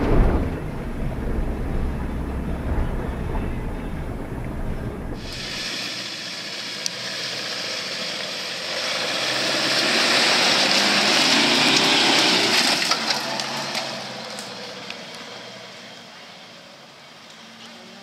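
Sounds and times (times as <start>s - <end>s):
pickup truck driving past: 0.0s - 17.6s.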